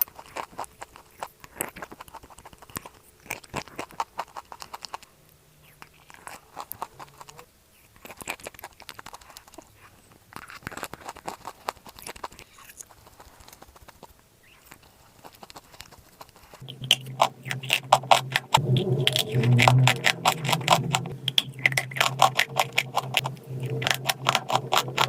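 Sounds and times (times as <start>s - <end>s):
chewing crunchy clay: 0.0s - 25.0s.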